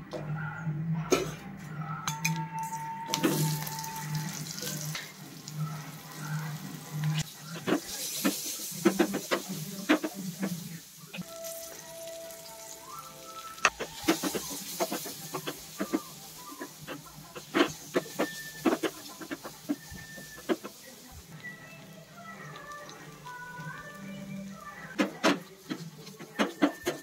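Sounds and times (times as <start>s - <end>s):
oil sizzling in frying pan: 3.1s - 27.0s.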